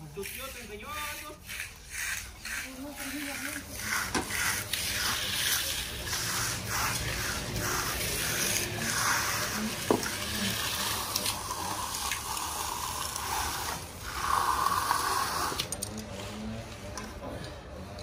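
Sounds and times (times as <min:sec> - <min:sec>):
hand tools scraping concrete: 0:00.0 - 0:17.8.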